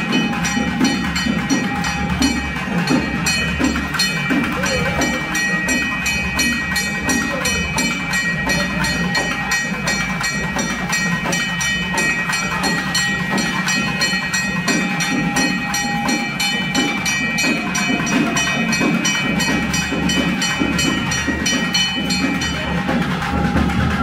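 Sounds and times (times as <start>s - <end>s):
drum band fast beat: 0.0s - 24.0s
held high tone: 0.0s - 24.0s.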